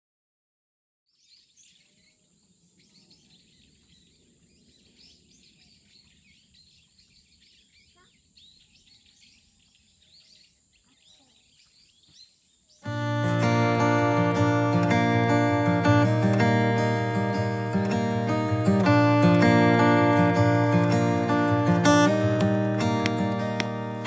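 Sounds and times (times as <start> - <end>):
small birds chirping: 1.1 - 24.0.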